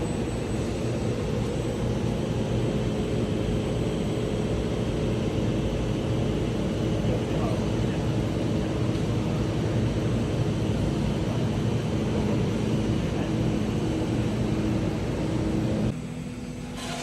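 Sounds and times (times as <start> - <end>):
laser cutting machine running: 0.0 - 17.0.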